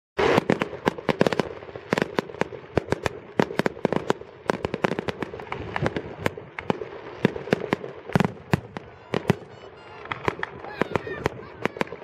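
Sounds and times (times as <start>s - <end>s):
fireworks bangs and pops: 0.2s - 12.0s.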